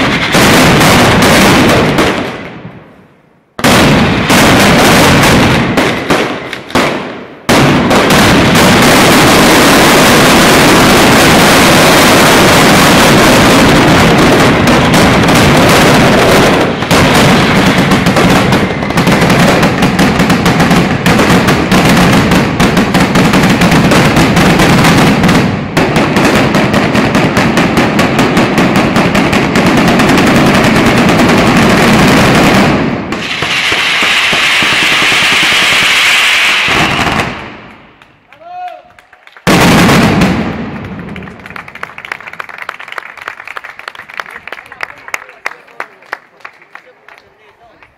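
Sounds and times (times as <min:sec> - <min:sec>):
firecrackers exploding: 0:00.0 - 0:38.4, 0:39.3 - 0:45.9.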